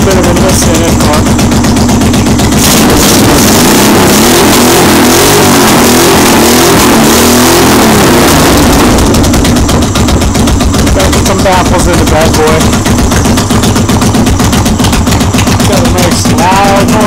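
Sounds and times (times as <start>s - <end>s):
motorcycle engine revving and idling: 0.0s - 17.0s.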